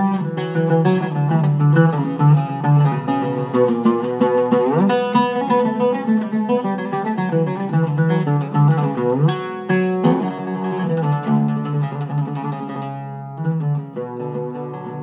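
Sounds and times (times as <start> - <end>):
oud plucked notes: 0.0 - 15.0.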